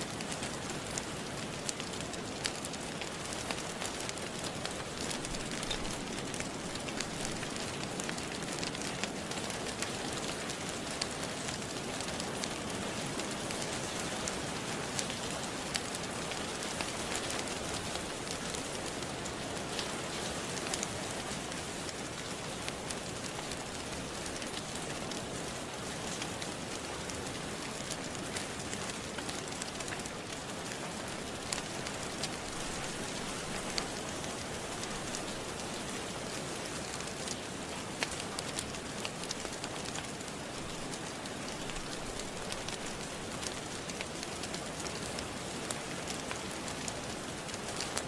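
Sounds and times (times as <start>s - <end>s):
steady rain: 0.0s - 48.0s
wood fire crackling: 0.0s - 48.0s.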